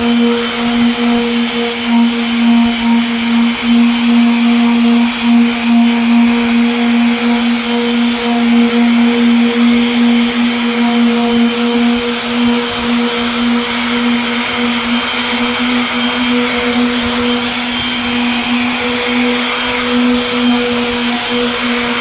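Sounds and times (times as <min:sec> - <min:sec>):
electric sander running: 0:00.0 - 0:22.0.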